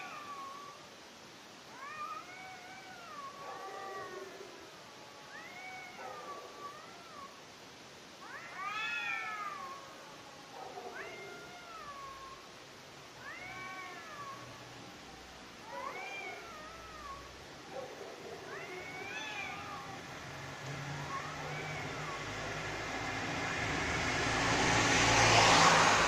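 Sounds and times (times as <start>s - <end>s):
cats caterwauling: 0.0s - 1.0s, 1.6s - 7.5s, 8.2s - 26.0s.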